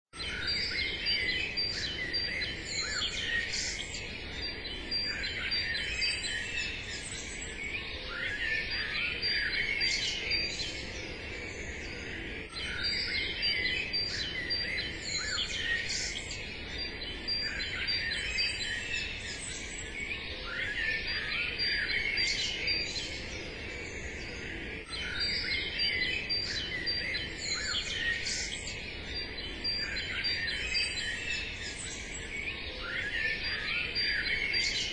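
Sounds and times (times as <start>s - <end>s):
songbirds chirping and trilling: 0.2s - 34.9s.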